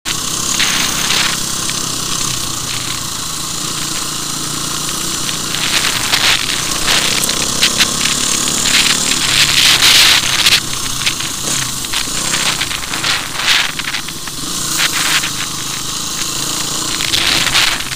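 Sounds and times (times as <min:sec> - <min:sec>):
dirt bike engine at low speed: 0:00.1 - 0:17.9
sharp crackles: 0:00.1 - 0:17.9
wind noise on microphone: 0:00.4 - 0:17.9.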